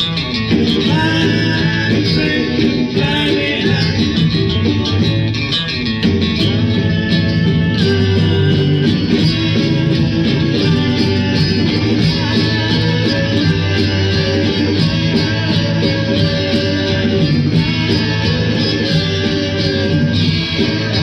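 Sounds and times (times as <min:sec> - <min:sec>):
rock band playing beat-pop: 0:00.0 - 0:21.0.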